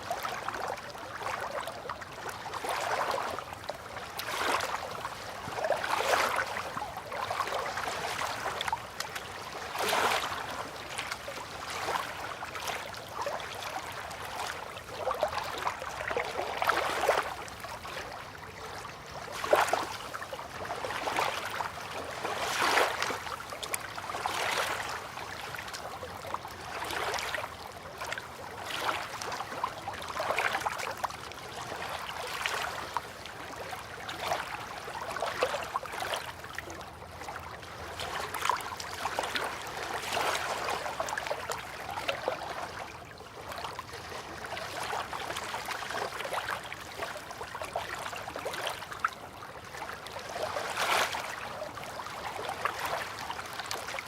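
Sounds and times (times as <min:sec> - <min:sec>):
river water lapping: 0:00.0 - 0:54.0.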